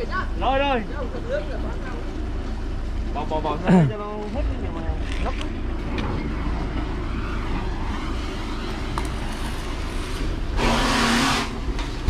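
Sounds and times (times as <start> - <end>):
truck engine and vacuum pump rumbling: 0.0 - 12.0.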